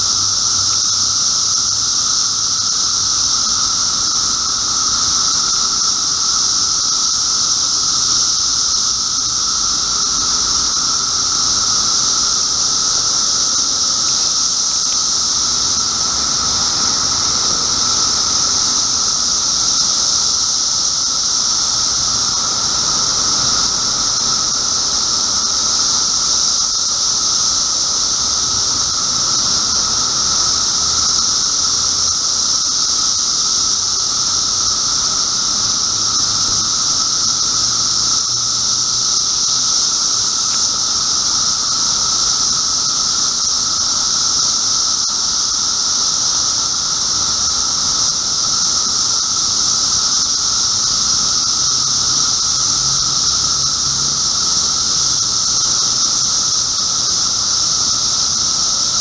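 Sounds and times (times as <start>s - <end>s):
cicadas droning: 0.0s - 59.0s.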